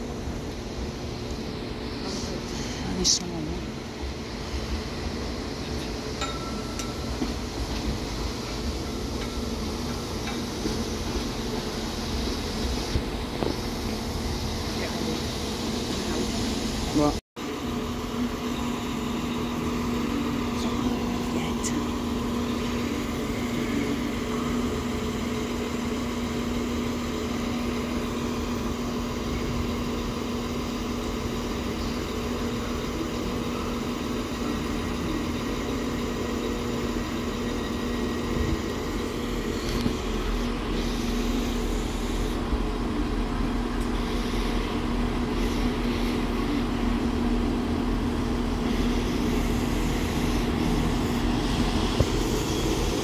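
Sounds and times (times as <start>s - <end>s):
train engine idling: 0.0s - 53.0s.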